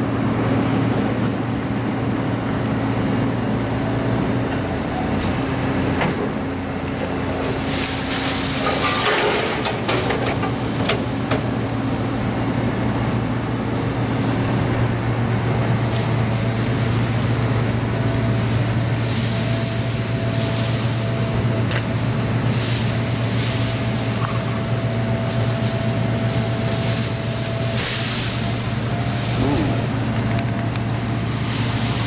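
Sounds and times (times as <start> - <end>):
heavy diesel machinery running: 0.0 - 32.0.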